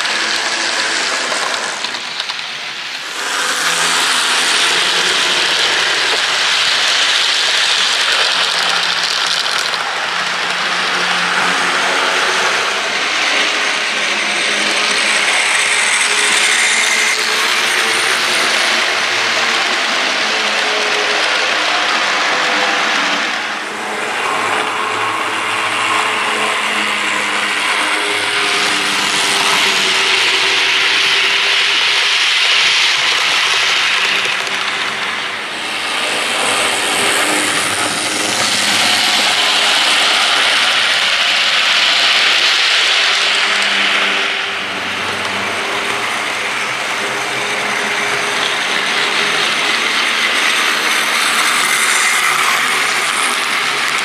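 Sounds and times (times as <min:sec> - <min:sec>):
model train wheels clattering: 0:00.0 - 0:54.0.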